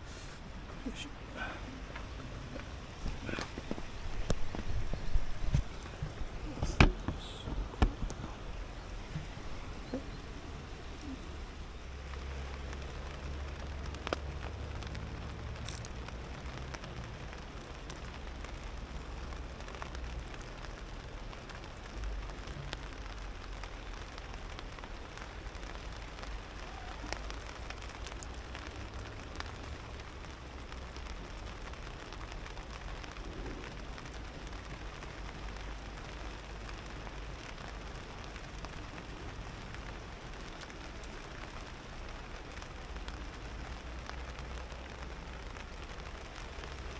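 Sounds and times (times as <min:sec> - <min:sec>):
rain falling on a tarp: 0:00.0 - 0:46.9.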